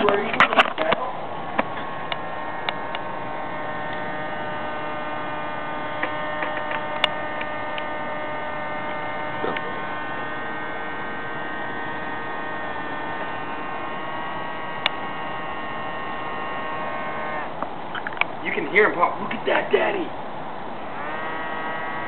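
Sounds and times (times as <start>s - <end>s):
small fan motor humming: 0.0s - 22.0s.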